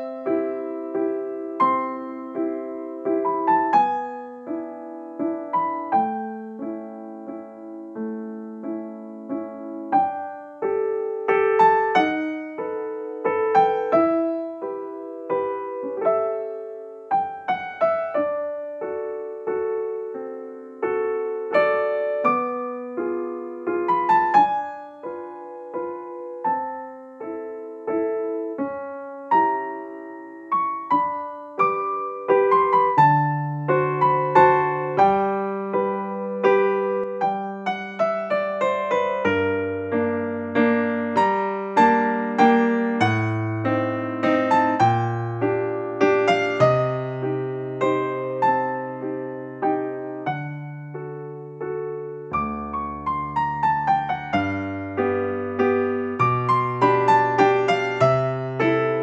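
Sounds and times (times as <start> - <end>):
slow piano music: 0.0 - 59.0.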